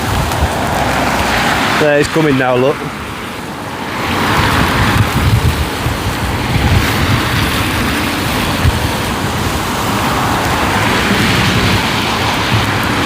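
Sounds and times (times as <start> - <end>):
road traffic hiss: 0.0 - 13.0
vehicle passing: 0.0 - 13.0
wind buffeting microphone: 0.0 - 13.0.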